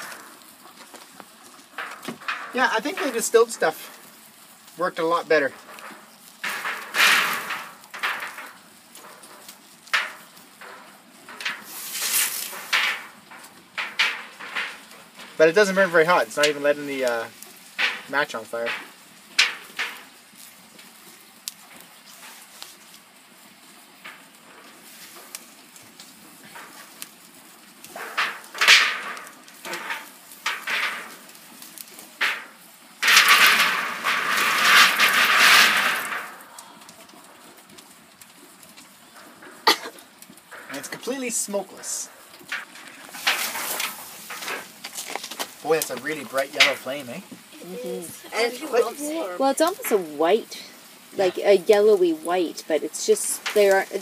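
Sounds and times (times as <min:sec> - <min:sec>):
flames flaring in rushing gusts: 0:00.0 - 0:54.0.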